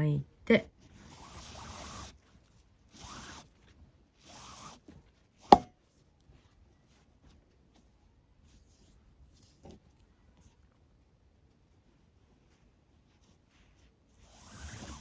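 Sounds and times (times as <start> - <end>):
cord rubbing through knots: 0.7 - 11.0, 11.7 - 15.0.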